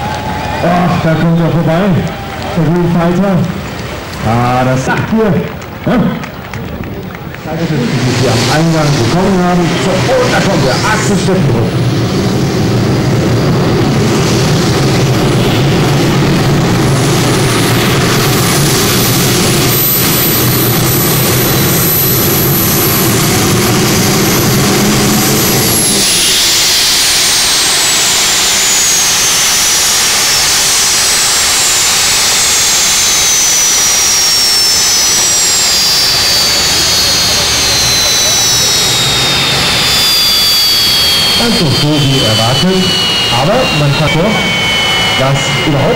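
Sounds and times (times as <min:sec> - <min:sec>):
turbine whine: 0:00.0 - 0:45.9.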